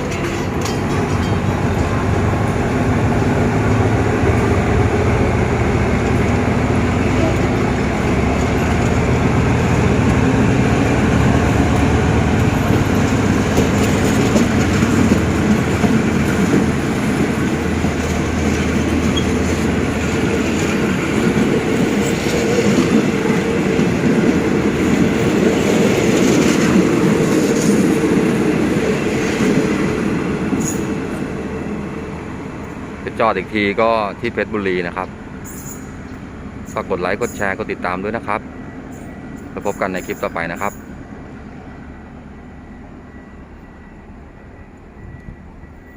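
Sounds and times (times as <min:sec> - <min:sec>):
diesel locomotive engine under load: 0:00.0 - 0:45.9
rail cars rumbling and clattering: 0:00.0 - 0:45.9.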